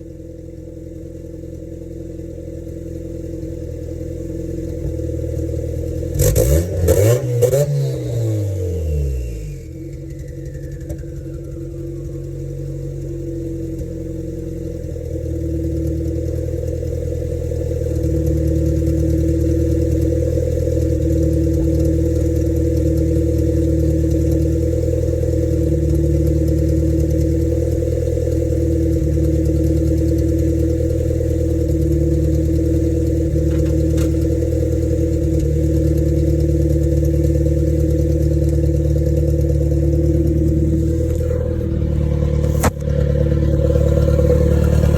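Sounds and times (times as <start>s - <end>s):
turbocharged car engine running: 0.0s - 44.9s.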